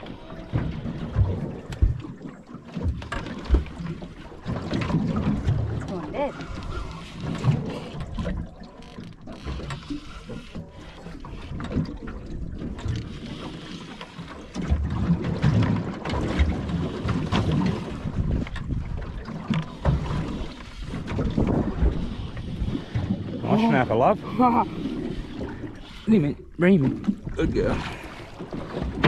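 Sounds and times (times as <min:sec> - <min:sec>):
water moving around boat: 0:00.0 - 0:29.0.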